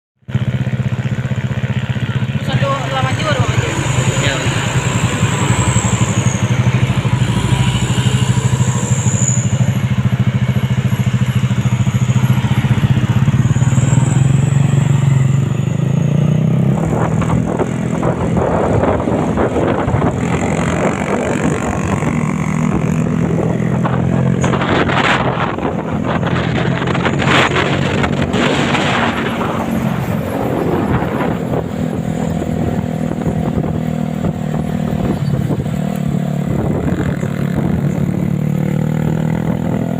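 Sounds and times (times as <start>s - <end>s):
road traffic: 0.2s - 39.9s
truck engine running: 0.3s - 39.7s.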